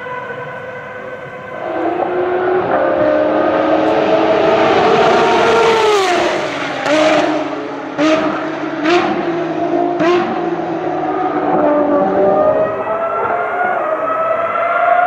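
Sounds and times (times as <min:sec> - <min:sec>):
race car engine downshifting: 0:00.0 - 0:15.0.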